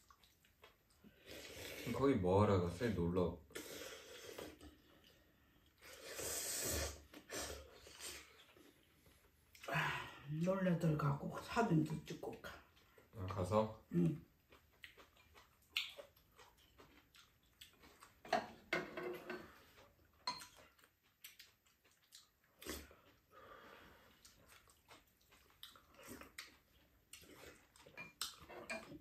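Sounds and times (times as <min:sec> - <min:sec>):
soft eating noises: 0:00.0 - 0:29.0.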